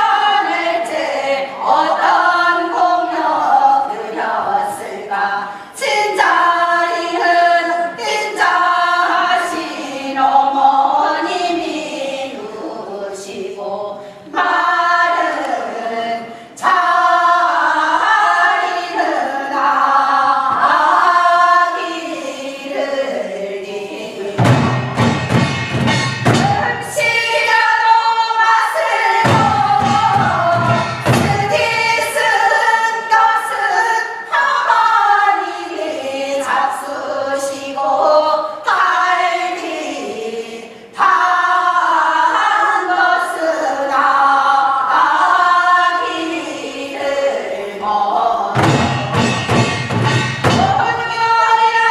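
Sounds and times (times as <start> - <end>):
group singing folk song: 0.0 - 51.9.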